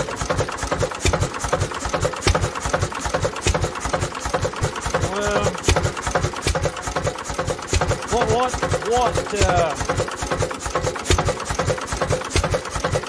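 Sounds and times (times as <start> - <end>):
engine running with fast clatter: 0.0 - 13.0.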